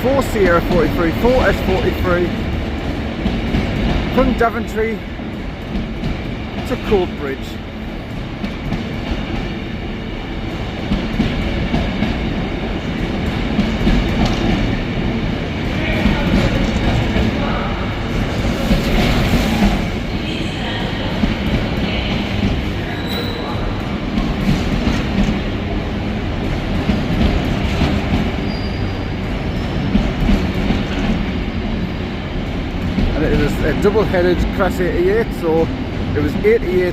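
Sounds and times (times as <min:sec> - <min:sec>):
freight train wheels clattering: 0:00.0 - 0:36.9.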